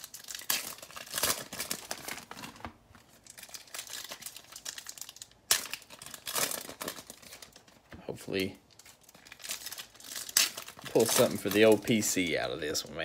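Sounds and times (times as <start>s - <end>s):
foil pack tearing and crinkling: 0.0s - 12.9s.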